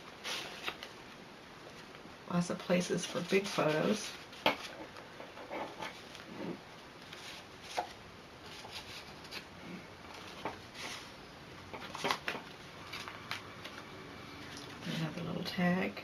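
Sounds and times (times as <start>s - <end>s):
paper rustling: 0.0s - 1.0s, 1.7s - 6.3s, 7.0s - 15.2s.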